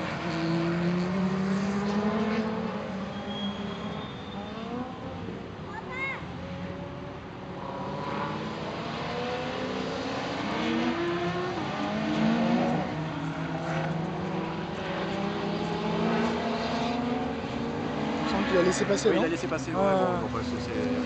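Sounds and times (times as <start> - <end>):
sports car engines revving: 0.0 - 21.0.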